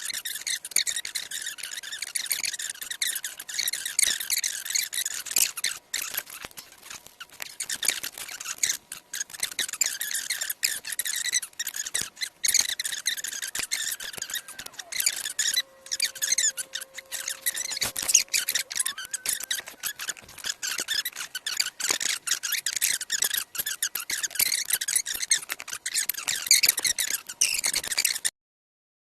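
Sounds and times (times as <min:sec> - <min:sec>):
sped-up high squeaks: 0:00.0 - 0:28.3
rapid clicks: 0:00.2 - 0:28.2.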